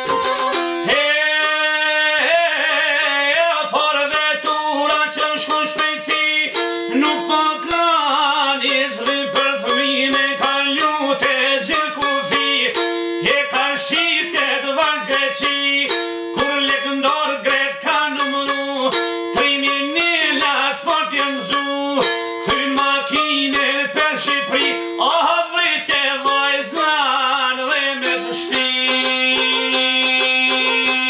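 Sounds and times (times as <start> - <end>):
plucked string melody with drone: 0.0 - 31.0
man singing: 0.8 - 31.0.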